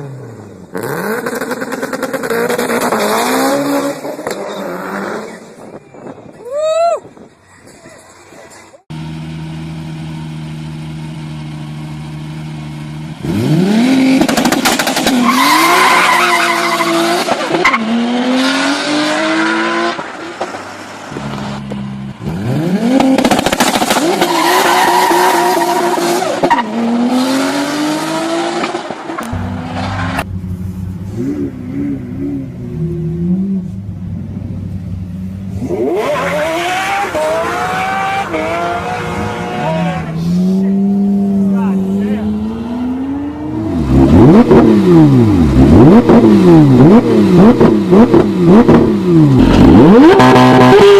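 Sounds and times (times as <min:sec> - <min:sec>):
car engine idling and revving: 0:00.0 - 0:06.3, 0:07.1 - 0:50.9.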